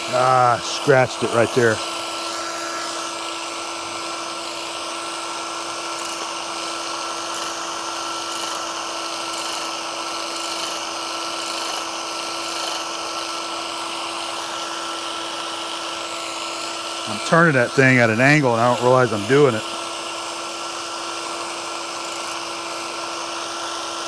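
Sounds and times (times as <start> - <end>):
power scraper humming: 0.0 - 24.0.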